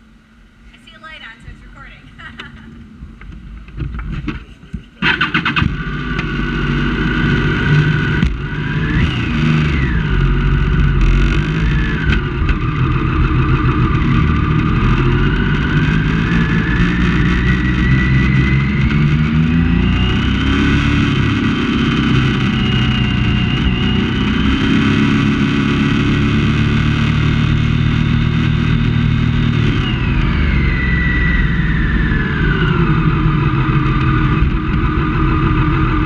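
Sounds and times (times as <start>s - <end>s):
motorcycle engine running: 2.2s - 36.0s.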